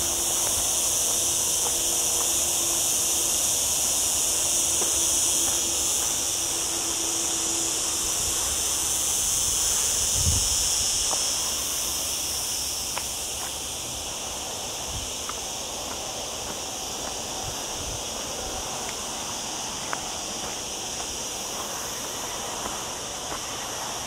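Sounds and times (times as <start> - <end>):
cicadas buzzing: 0.0 - 24.0.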